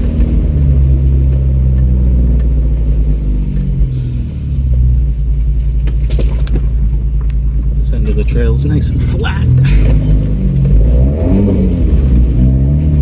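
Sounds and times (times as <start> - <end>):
car engine driving: 0.0 - 13.0.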